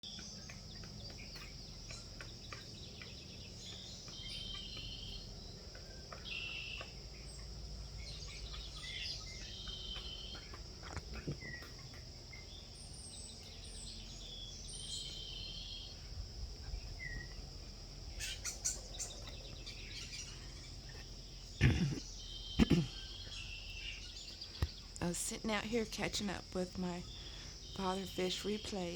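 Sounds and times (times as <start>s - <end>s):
woodpeckers calling: 0.0s - 16.1s, 17.0s - 28.9s
high insect drone: 0.0s - 28.9s.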